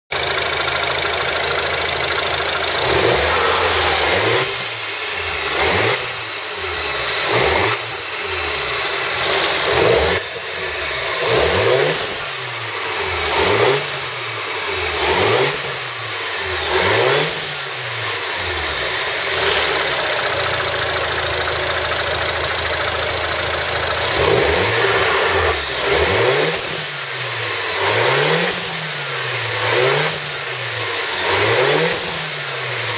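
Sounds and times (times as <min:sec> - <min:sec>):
car engine revving: 0:00.2 - 0:32.9.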